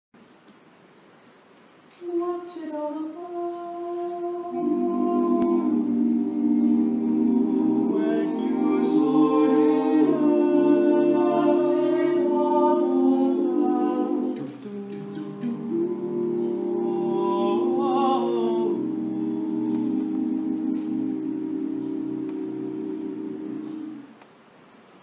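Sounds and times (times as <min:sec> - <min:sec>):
male a cappella group singing: 0:02.0 - 0:24.0.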